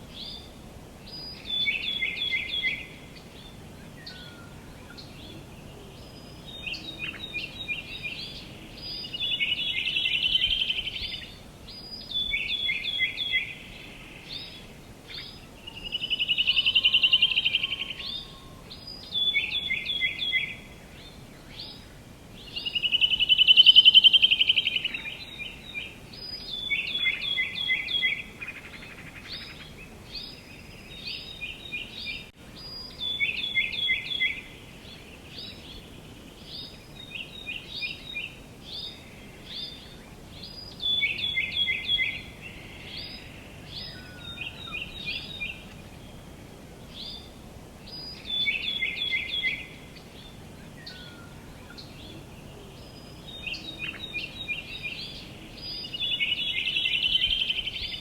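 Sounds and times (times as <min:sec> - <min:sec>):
faint outdoor background: 0:00.0 - 0:58.0
songbird chirping and trilling: 0:00.0 - 0:58.0.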